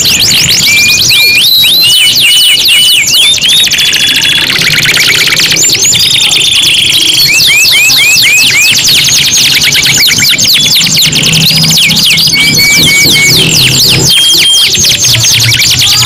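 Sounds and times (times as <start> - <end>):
canaries singing: 0.0 - 16.0.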